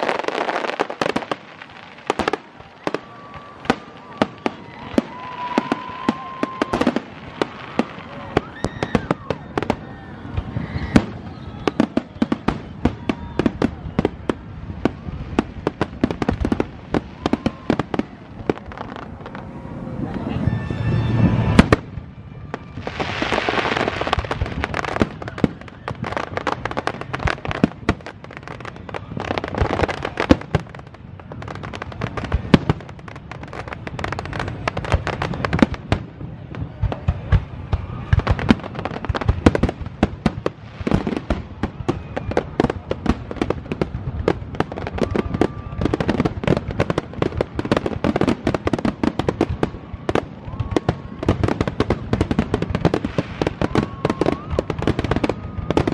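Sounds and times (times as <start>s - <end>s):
fireworks booming and crackling: 0.0s - 55.9s
fireworks popping: 0.0s - 55.9s.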